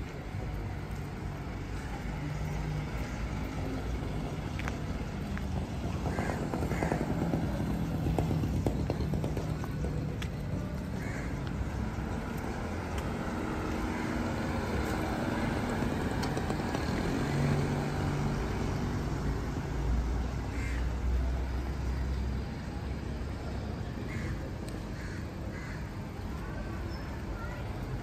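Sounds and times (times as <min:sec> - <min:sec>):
engine low hum: 0:00.0 - 0:28.0
passing motor vehicles: 0:00.0 - 0:28.0.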